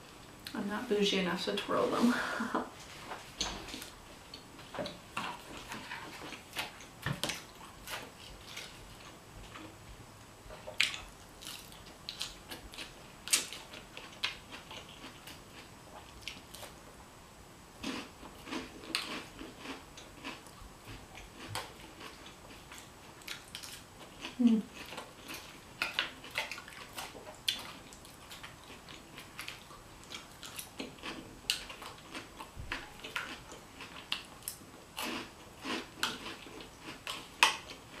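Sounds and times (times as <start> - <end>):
salad crunching and chewing: 3.6 - 9.8, 10.5 - 16.8, 17.8 - 38.0.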